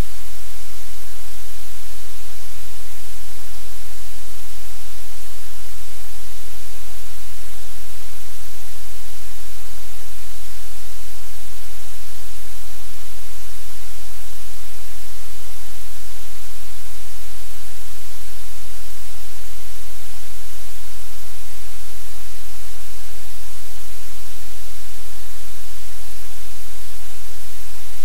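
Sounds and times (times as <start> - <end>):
loud static hiss: 0.0 - 28.0.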